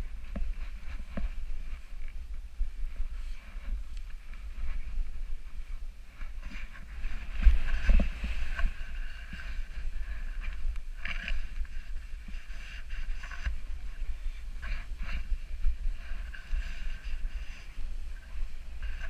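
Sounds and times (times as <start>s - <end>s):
wind buffeting microphone: 0.0s - 19.0s
snowboard carving through snow: 2.8s - 19.0s.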